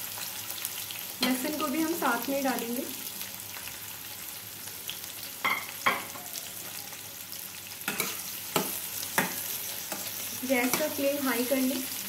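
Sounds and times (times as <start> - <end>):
onions sizzling in hot fat: 0.0 - 12.0.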